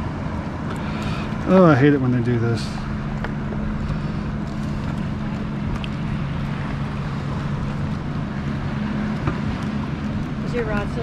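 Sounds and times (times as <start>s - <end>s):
outboard motor idling: 0.0s - 11.0s
water noise: 0.0s - 11.0s
wind: 0.0s - 11.0s.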